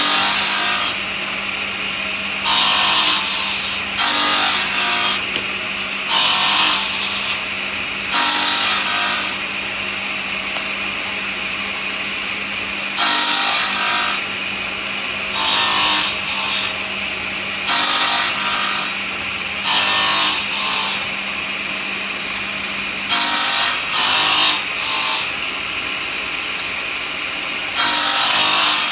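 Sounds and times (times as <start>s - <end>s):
harsh stone cutting noise: 0.0s - 1.8s, 2.4s - 9.6s, 12.9s - 28.9s
stone-cutting saw humming: 0.0s - 28.9s.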